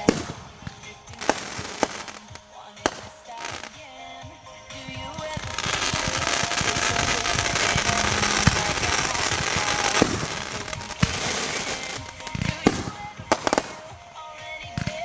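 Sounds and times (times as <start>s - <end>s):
faint music: 0.0s - 15.0s
fireworks crackling and banging: 0.0s - 15.0s.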